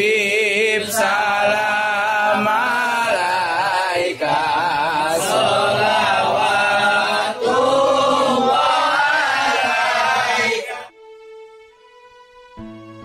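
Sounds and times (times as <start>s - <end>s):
men chanting in unison: 0.0s - 10.9s.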